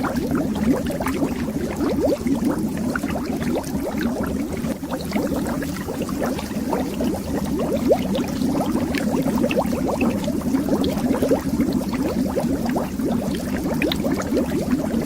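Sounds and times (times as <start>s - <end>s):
underwater bubbles blooping: 0.0s - 15.0s.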